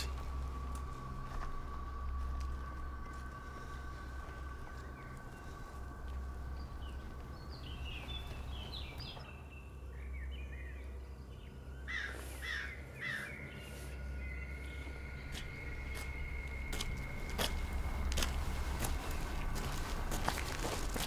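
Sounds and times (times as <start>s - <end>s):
birds calling: 0.0s - 21.0s
steady low hum: 0.0s - 21.0s.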